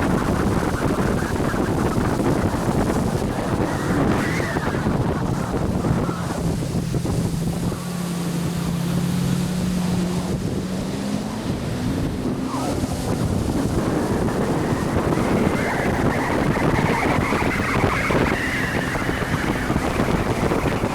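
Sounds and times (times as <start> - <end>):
jet ski engine drone: 0.0 - 20.9
water rushing: 0.0 - 20.9
wind buffeting microphone: 0.0 - 20.9.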